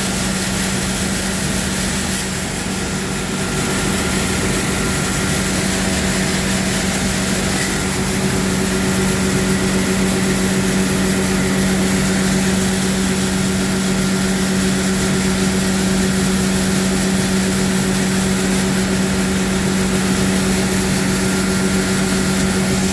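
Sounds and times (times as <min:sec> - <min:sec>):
machine hiss: 0:00.0 - 0:22.9
machine humming: 0:00.0 - 0:22.9.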